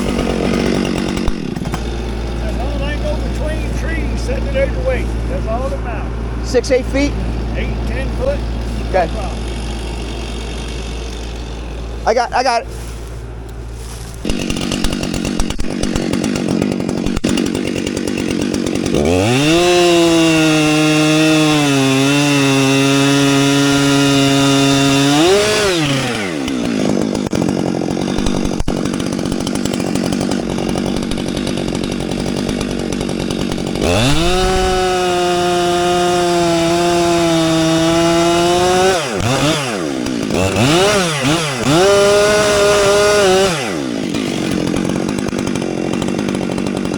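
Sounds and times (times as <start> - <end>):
chainsaw idling and revving: 0.0 - 46.9.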